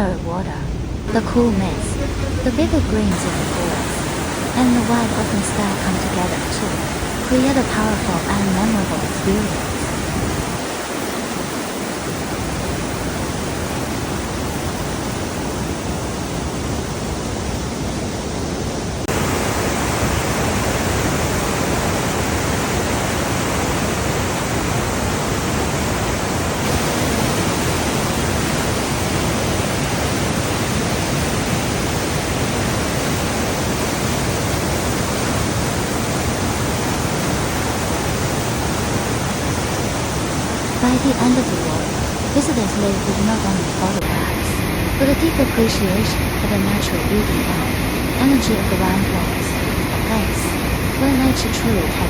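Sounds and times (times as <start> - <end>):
waterfall rushing: 0.9 - 52.0.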